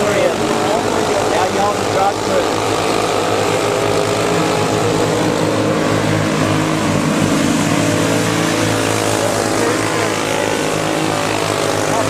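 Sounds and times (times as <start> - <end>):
go-kart engines racing: 0.0 - 12.0.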